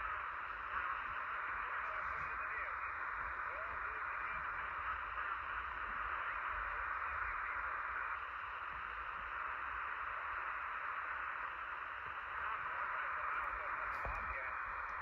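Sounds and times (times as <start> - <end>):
faint weak radio transmission: 0.0 - 15.0
radio static hiss: 0.0 - 15.0.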